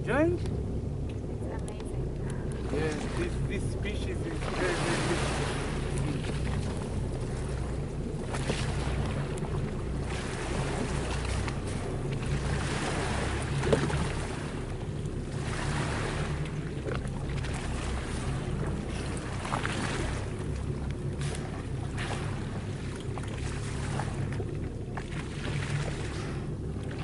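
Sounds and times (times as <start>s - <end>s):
boat engine idling: 0.0s - 27.0s
water washing against hull: 0.0s - 27.0s.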